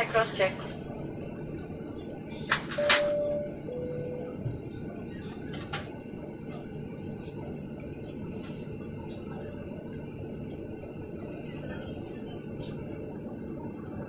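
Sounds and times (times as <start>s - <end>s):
aircraft cabin rumble and hiss: 0.0s - 14.0s.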